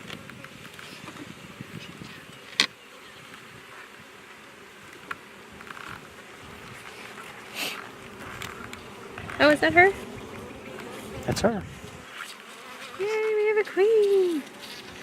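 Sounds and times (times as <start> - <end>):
bees buzzing: 0.2 - 15.0.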